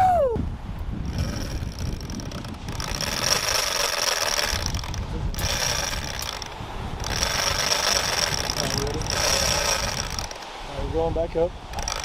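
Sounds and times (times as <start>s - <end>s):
fishing reel drag whining: 1.0s - 10.6s, 11.7s - 12.0s.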